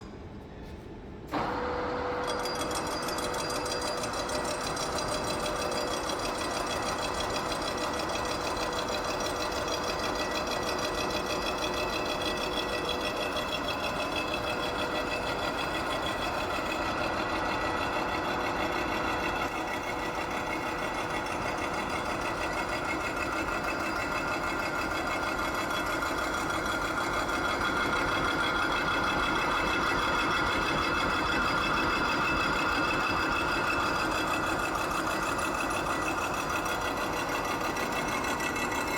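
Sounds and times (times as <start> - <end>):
milling machine whine: 1.4 - 38.9.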